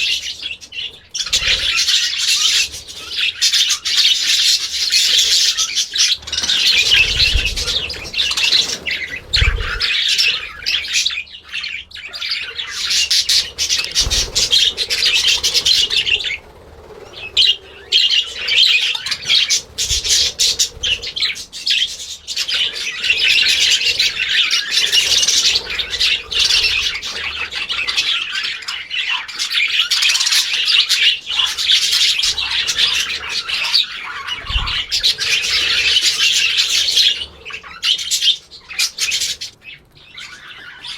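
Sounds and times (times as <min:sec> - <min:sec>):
flock of birds squawking: 0:00.0 - 0:40.9.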